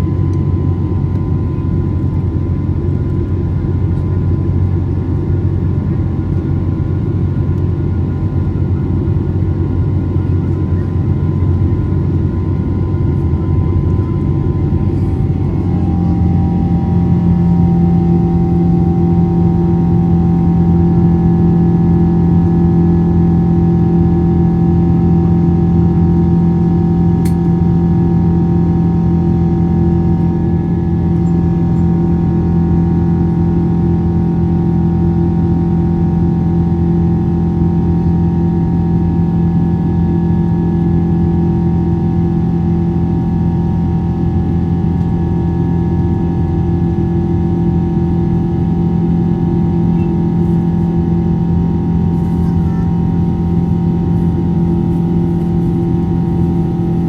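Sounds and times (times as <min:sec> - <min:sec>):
airliner engine drone in cabin: 0:00.0 - 0:57.0.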